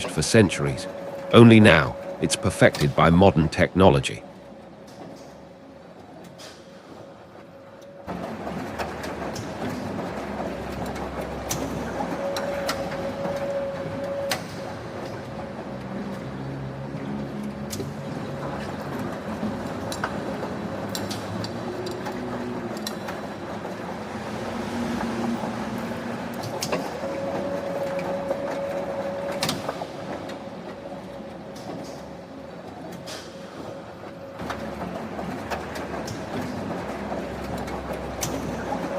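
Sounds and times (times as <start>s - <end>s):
factory machinery hum: 0.0s - 38.9s.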